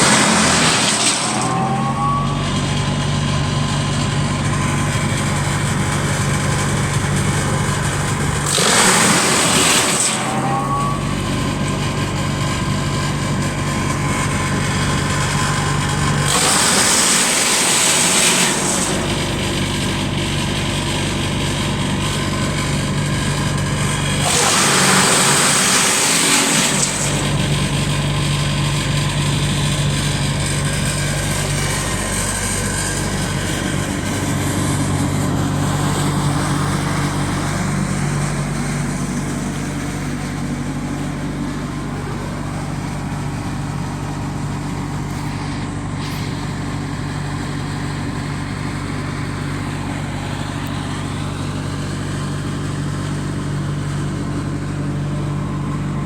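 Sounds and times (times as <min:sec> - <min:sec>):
wood chipper engine running: 0:00.0 - 0:56.0.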